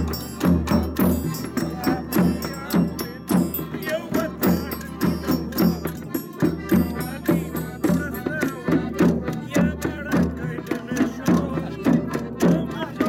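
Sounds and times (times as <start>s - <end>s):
button accordion tune: 0.0s - 13.0s
man singing: 0.0s - 13.0s
percussion beat: 0.0s - 13.0s.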